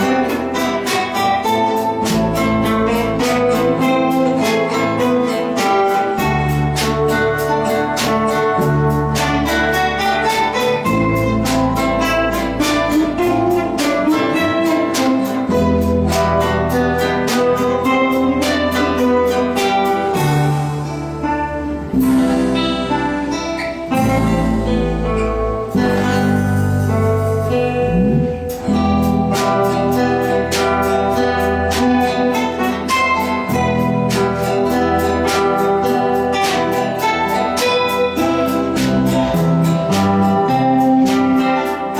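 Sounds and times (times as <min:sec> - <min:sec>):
guitars playing plucked notes: 0:00.0 - 0:41.9.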